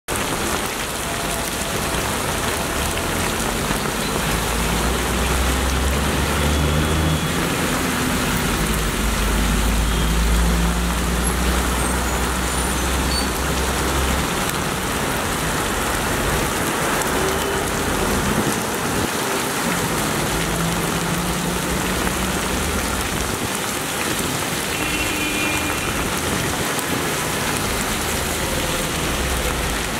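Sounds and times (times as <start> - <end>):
heavy rain on street: 0.1 - 29.9.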